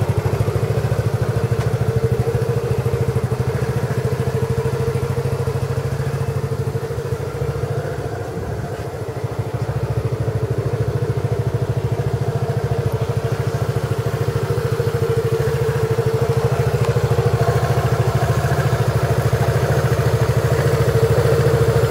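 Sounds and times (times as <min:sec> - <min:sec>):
scooter engine idling: 0:00.0 - 0:21.9.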